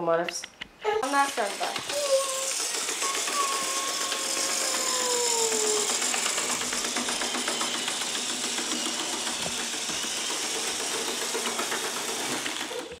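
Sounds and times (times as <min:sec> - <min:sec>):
model locomotive humming: 0:01.0 - 0:13.0
fast small clicks: 0:01.2 - 0:13.0.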